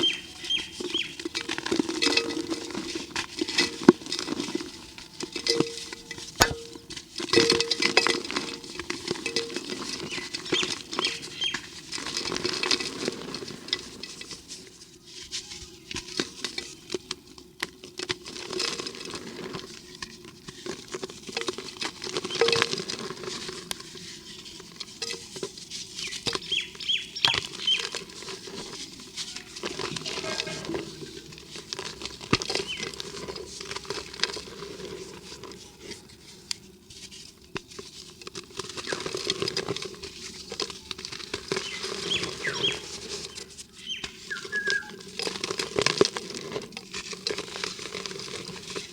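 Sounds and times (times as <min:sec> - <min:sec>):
dry cement and dirt crumbling: 0:00.0 - 0:48.9.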